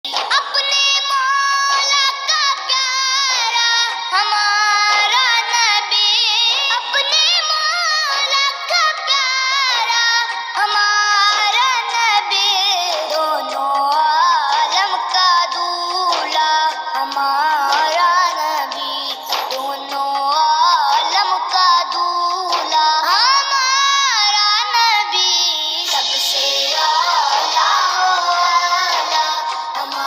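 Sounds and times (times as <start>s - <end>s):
high voice singing devotional song: 0.0s - 30.0s.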